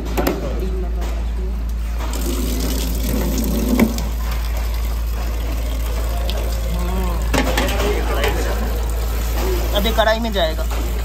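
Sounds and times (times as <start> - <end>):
water running and splashing: 1.8 - 11.0.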